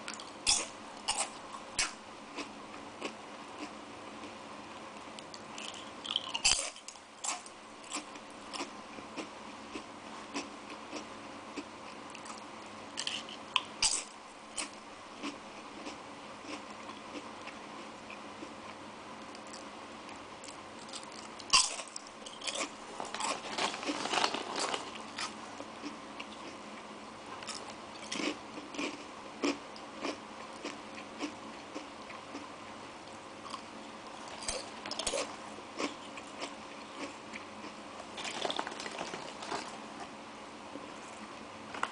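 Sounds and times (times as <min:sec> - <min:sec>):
crunchy snack being chewed: 0:00.1 - 0:03.8, 0:05.2 - 0:18.5, 0:20.4 - 0:26.6, 0:27.4 - 0:32.5, 0:34.2 - 0:39.8.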